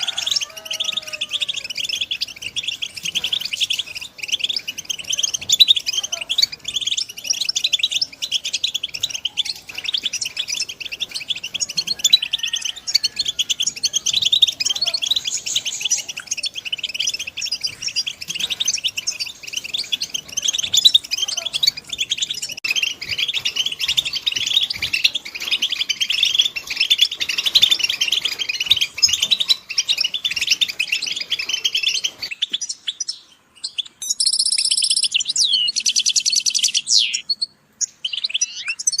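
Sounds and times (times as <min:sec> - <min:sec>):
finches twittering chirps: 0:00.0 - 0:39.0.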